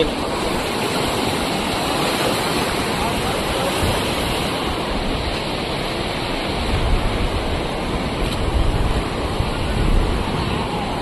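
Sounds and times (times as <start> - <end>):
low rumbling gusts: 0.0 - 11.0
river water rushing: 0.0 - 11.0.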